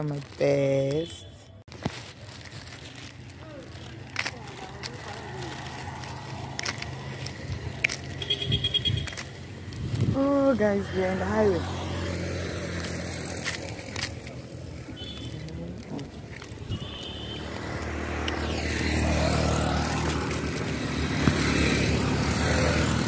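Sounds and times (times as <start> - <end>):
vehicle engine humming: 0.0 - 23.0
vehicle passing close by: 3.8 - 23.0.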